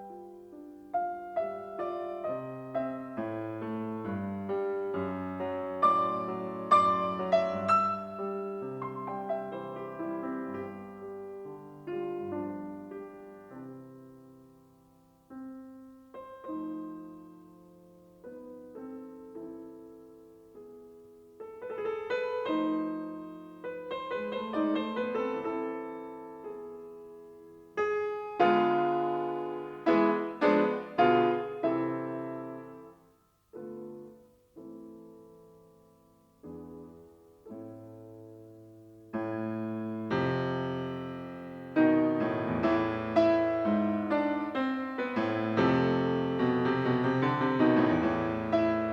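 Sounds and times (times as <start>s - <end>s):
solo piano music: 0.0s - 48.9s.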